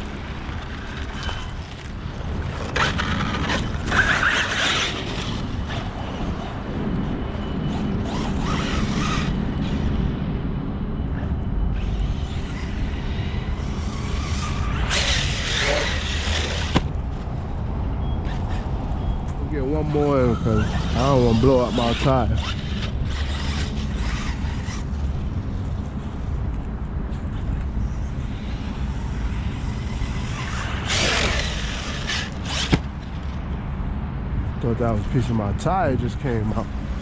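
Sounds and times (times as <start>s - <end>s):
electric rc truck driving: 0.0s - 33.8s, 36.3s - 37.0s.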